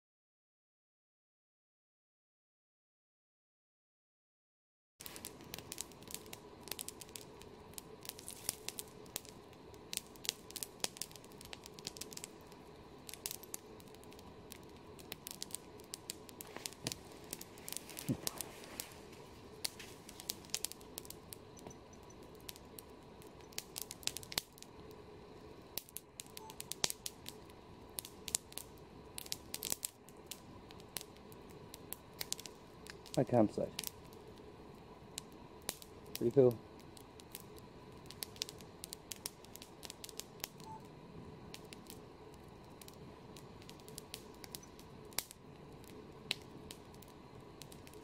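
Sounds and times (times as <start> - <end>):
campfire crackling and popping: 5.0 - 48.0.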